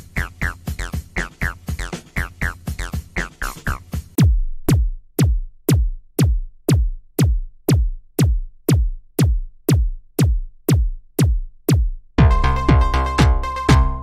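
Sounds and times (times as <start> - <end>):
drum machine kick: 0.0 - 14.0.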